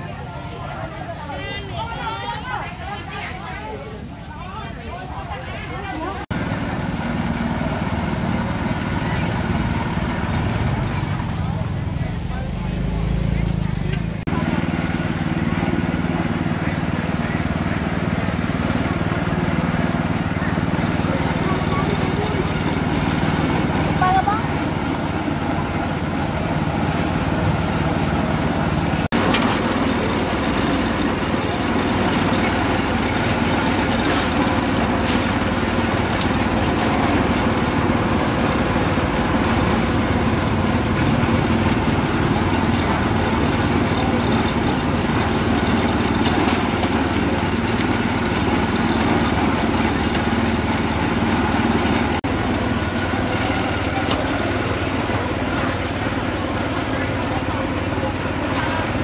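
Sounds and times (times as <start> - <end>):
engine humming: 0.0 - 59.0
outdoor market noise: 0.0 - 59.0.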